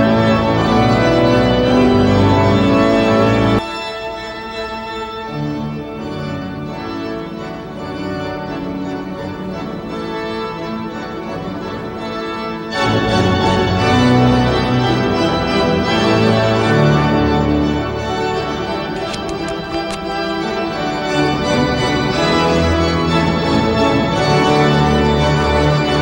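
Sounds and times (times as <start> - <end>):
pipe organ playing chords: 0.0 - 26.0.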